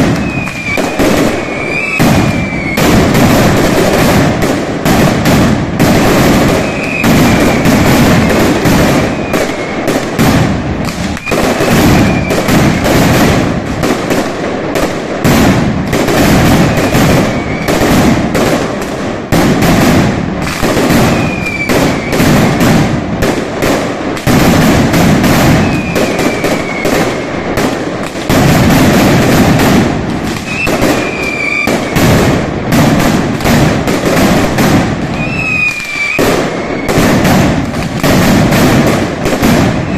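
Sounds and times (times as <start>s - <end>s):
firecrackers exploding: 0.0s - 39.9s.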